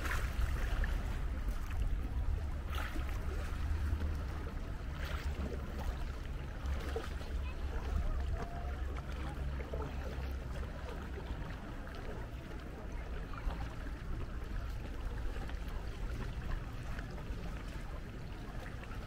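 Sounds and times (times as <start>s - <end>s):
water sloshing around canoe: 0.0s - 19.0s.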